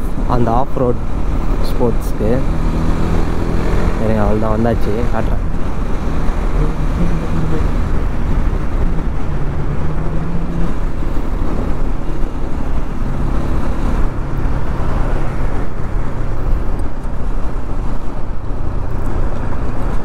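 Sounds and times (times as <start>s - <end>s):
road and wind noise: 0.0s - 20.0s
motorcycle engine cruising: 1.0s - 20.0s.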